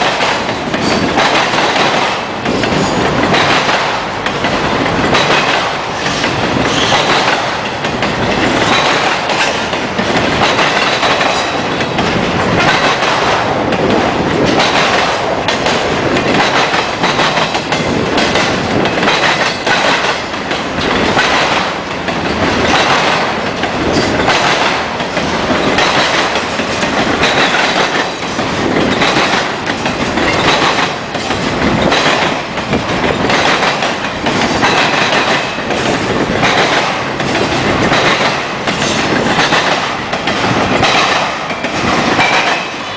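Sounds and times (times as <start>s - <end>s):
train wheels banging over crossing: 0.0s - 42.9s.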